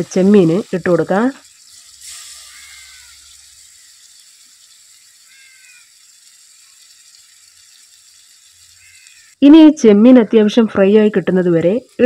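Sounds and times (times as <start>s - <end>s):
prawns sizzling in oil: 0.0s - 12.0s.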